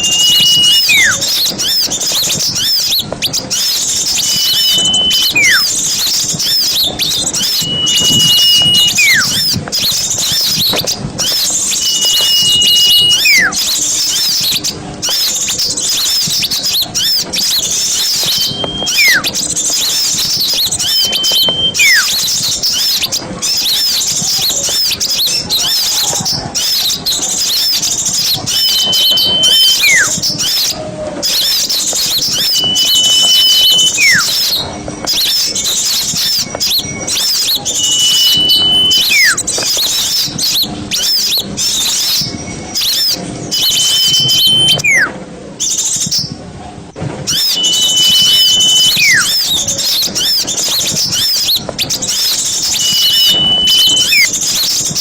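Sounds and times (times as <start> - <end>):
bird whistle with falling slide: 0.0 - 45.2, 47.3 - 55.0
songbirds chirping: 0.0 - 46.4, 47.2 - 55.0.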